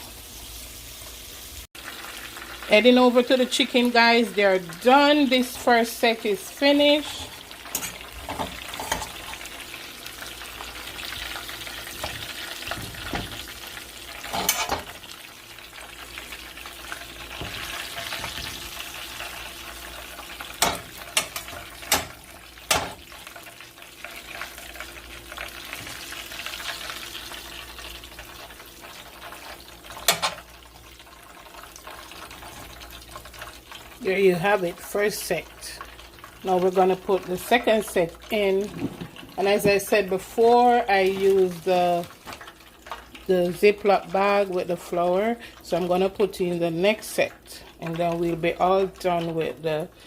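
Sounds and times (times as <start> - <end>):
chicken frying in oil: 0.0 - 50.0.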